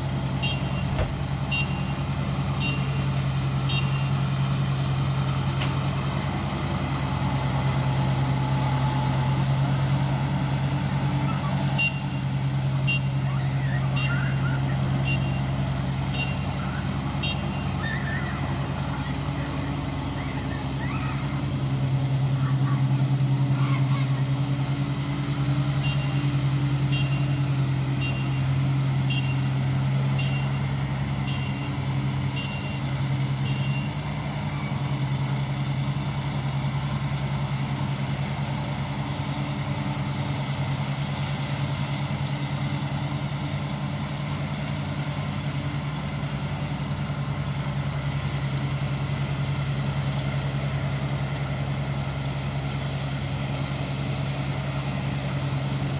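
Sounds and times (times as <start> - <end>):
harvester engine running: 0.0 - 55.9.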